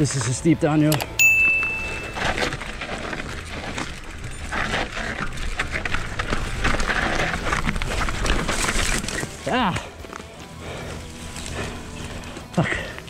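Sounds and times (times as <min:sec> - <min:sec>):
tyres crunching over dirt and rocks: 0:02.0 - 0:13.0
bike clattering over bumps: 0:02.2 - 0:12.8.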